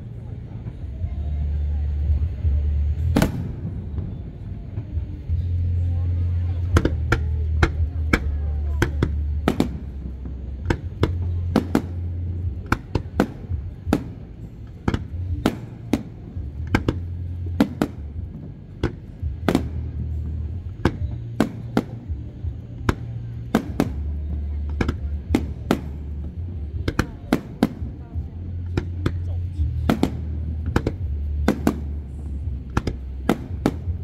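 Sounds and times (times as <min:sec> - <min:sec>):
background music drone: 0:00.0 - 0:34.0
fireworks bursting: 0:00.0 - 0:34.0.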